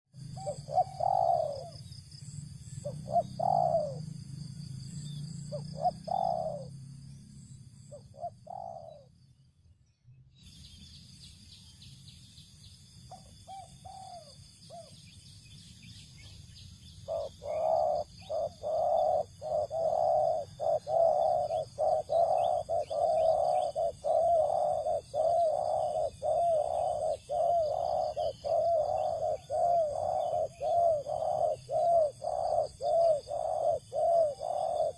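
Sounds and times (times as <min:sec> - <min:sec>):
doves cooing: 0:00.2 - 0:09.1, 0:13.1 - 0:15.0, 0:17.0 - 0:34.9.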